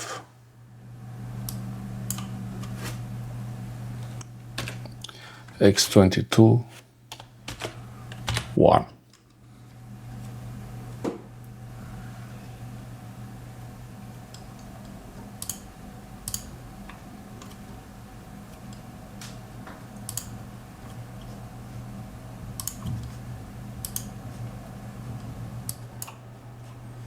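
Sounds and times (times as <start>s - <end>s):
desktop computer humming: 0.0s - 27.0s.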